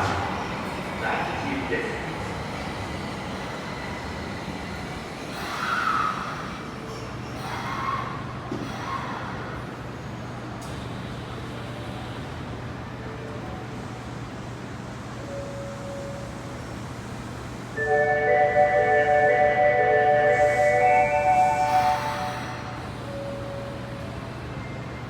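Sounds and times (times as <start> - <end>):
subway train rumble: 0.0 - 25.0.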